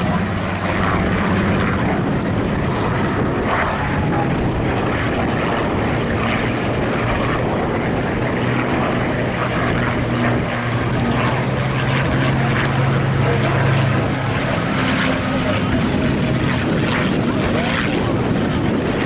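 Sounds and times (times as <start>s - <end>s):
piston aircraft engines droning: 0.0s - 19.0s.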